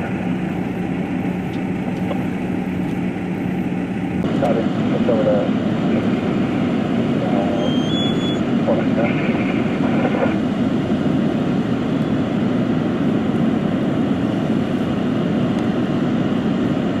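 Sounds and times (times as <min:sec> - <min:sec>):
diesel engines rumbling: 0:00.0 - 0:17.0.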